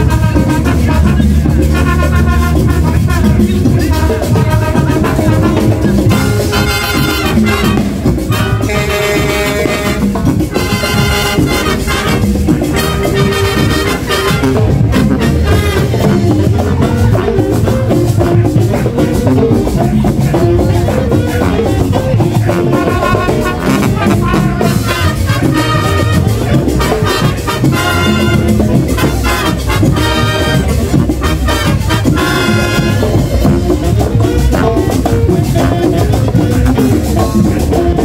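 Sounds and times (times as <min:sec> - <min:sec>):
brass phrases: 0:00.0 - 0:38.0
drums and percussion: 0:00.0 - 0:38.0
marching band playing dance tune: 0:00.0 - 0:38.0.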